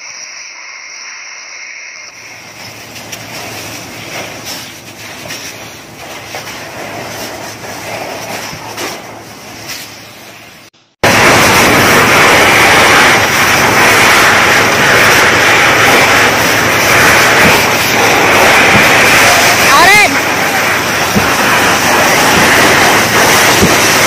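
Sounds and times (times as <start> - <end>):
fire hose spraying water: 0.0 - 24.0.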